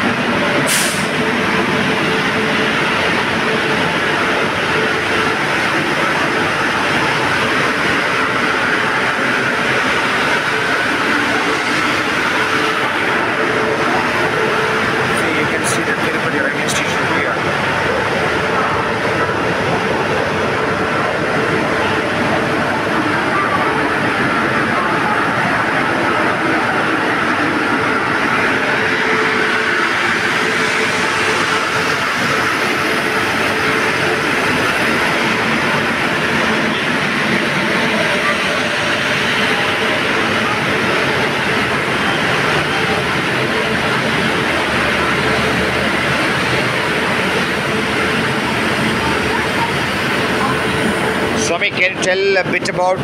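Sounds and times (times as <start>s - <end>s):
train running: 0.0s - 53.0s.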